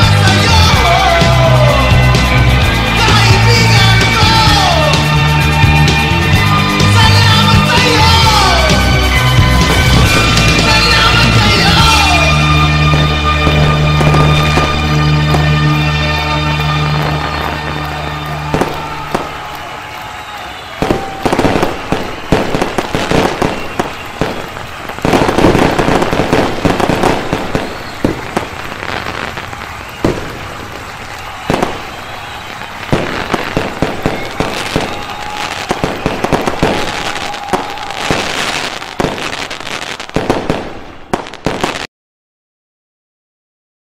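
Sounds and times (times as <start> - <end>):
fireworks bangs: 0.0 - 41.9
fireworks crackling pops: 0.0 - 41.9.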